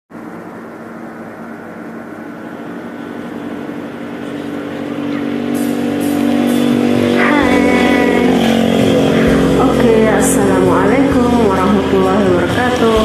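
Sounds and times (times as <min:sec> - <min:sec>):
sustained instrumental chord: 0:00.3 - 0:13.0.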